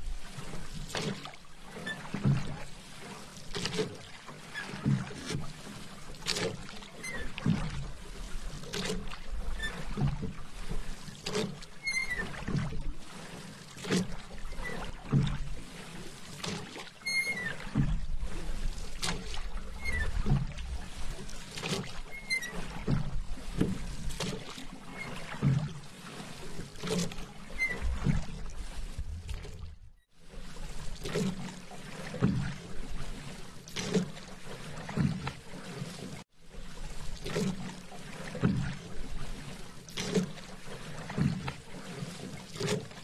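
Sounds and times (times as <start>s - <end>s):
paddle strokes through water: 0.0s - 43.0s
water lapping: 0.0s - 43.0s.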